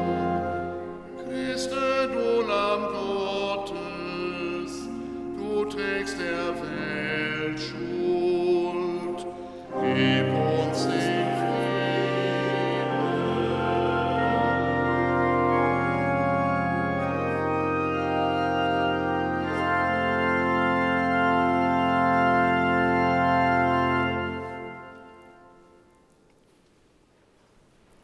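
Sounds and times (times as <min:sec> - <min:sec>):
church organ chords: 0:00.0 - 0:26.1.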